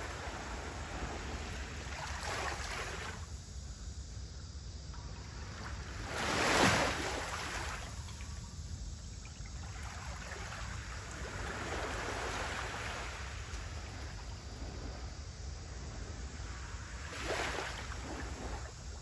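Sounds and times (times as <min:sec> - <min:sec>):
small sea waves lapping: 0:00.0 - 0:03.9, 0:04.8 - 0:19.0.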